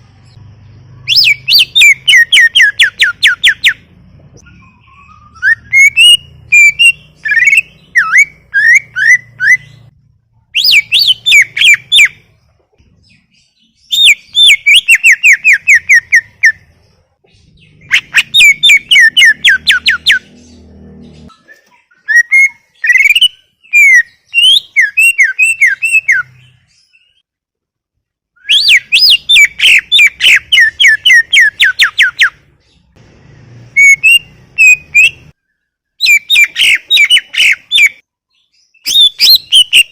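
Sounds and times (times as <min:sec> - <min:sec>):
bird whistling song: 0:01.0 - 0:09.9, 0:10.5 - 0:12.4, 0:13.0 - 0:27.3, 0:28.4 - 0:32.8, 0:33.7 - 0:39.9.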